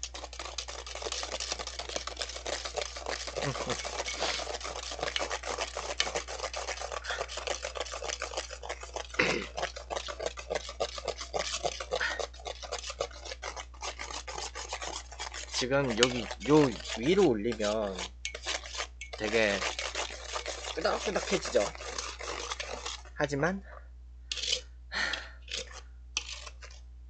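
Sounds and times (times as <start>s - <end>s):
whisk scraping metal bowl: 0.0s - 23.7s, 24.3s - 24.7s, 25.5s - 26.8s.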